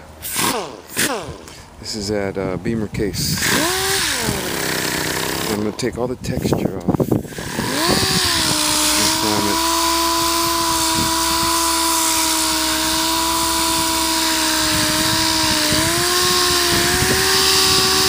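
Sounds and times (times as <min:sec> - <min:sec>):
sander whining: 0:00.0 - 0:01.8, 0:03.3 - 0:05.9, 0:07.0 - 0:18.0.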